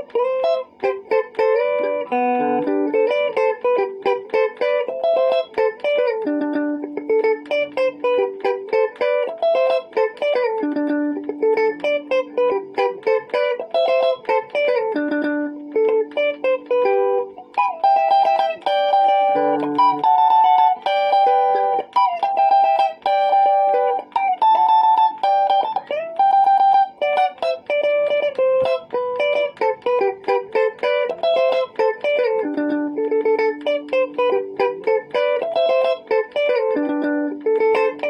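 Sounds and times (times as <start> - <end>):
electric guitar lead melody: 0.0 - 38.0.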